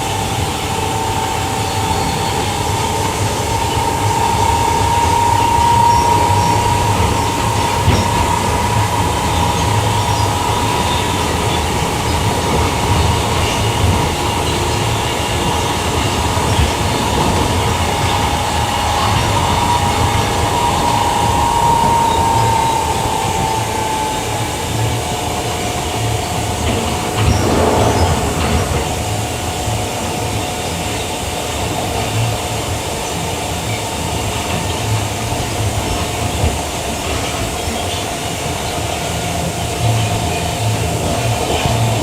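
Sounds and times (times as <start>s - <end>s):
train motor whine: 0.0s - 42.0s
train rumbling on board: 0.0s - 42.0s.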